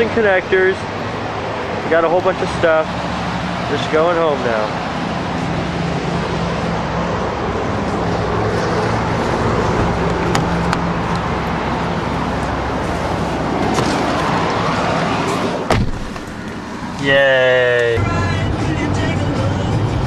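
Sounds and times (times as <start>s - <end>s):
car engine hum: 0.0s - 20.0s
tyre and road noise: 0.0s - 20.0s.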